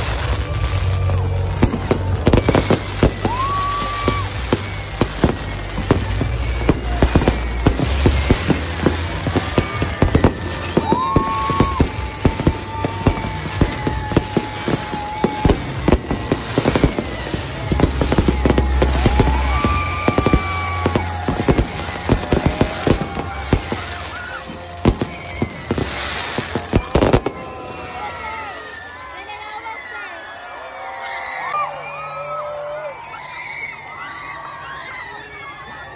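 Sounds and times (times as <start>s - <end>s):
music: 0.0s - 29.3s
fireworks bangs and crackles: 0.0s - 30.0s.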